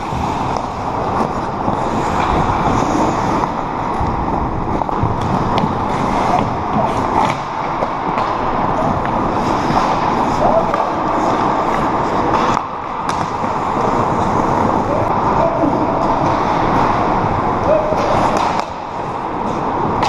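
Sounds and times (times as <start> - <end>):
skate blades scraping on ice: 0.0 - 20.0
steady rushing background: 0.0 - 20.0
hockey stick and puck clicks: 0.2 - 14.4, 17.9 - 20.0.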